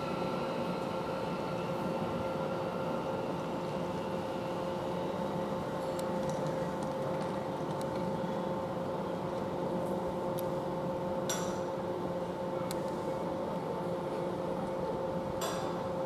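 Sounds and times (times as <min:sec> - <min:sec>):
electric train hum: 0:00.0 - 0:16.0.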